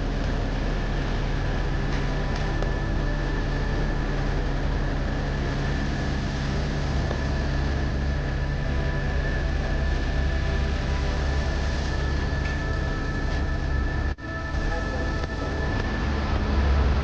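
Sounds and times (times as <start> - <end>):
helicopter rotor and engine drone: 0.0 - 17.0
high whine: 0.0 - 17.0.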